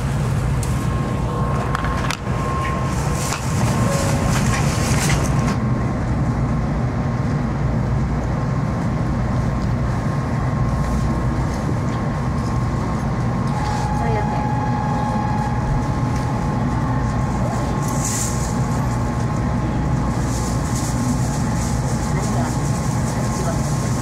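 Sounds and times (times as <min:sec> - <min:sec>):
train onboard equipment hum: 0:00.0 - 0:24.0.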